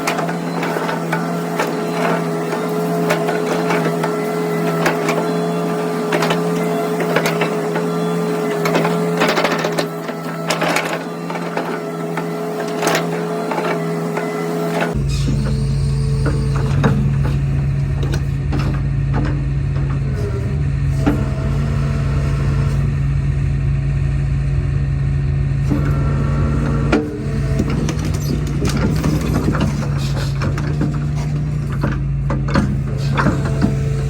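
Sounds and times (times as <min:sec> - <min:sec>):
metal knocks and clanks: 0:00.0 - 0:21.4, 0:25.7 - 0:34.0
diesel engine running: 0:00.0 - 0:34.0.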